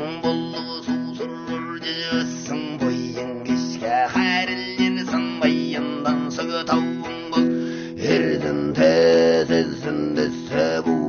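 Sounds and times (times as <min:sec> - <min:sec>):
man singing: 0:00.0 - 0:11.0
strummed lute: 0:00.0 - 0:11.0.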